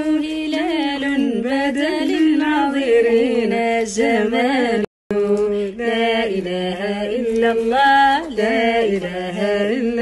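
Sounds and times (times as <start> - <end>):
women chanting: 0.0 - 10.0.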